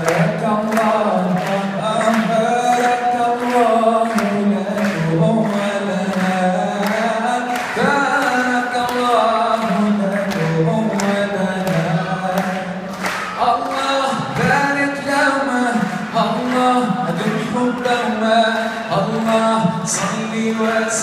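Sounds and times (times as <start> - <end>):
man singing into microphone: 0.0 - 21.0.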